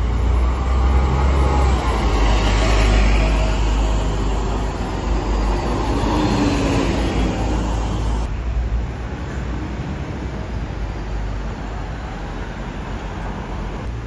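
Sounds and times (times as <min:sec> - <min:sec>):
buses and cars passing: 0:00.0 - 0:14.0.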